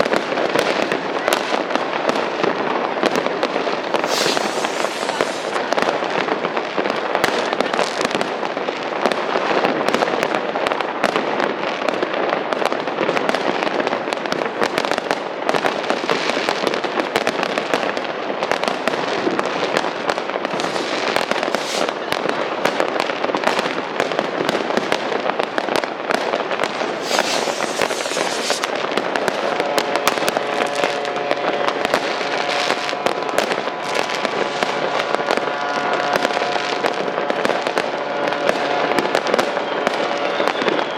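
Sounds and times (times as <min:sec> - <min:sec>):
fireworks banging and crackling: 0:00.0 - 0:40.9.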